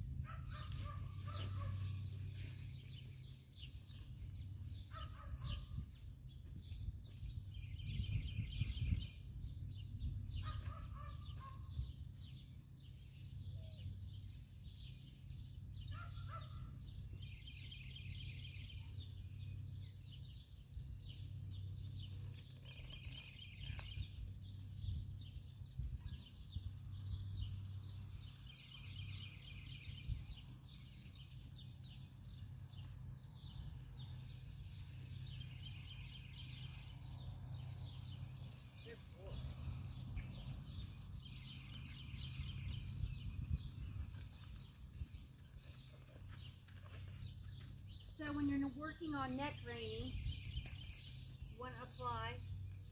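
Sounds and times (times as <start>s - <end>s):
bird trilling song: 0.3s - 52.9s.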